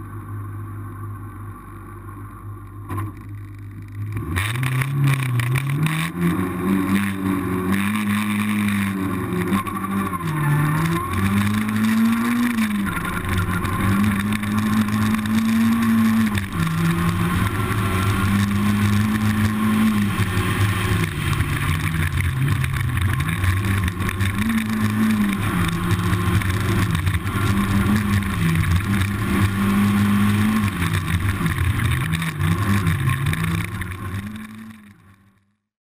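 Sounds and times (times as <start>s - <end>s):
racing car engine revving: 3.8s - 35.1s.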